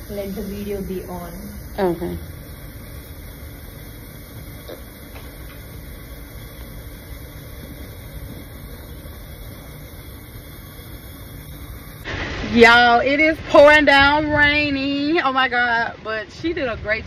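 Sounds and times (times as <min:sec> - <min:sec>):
steady low rumbling: 0:00.0 - 0:17.0.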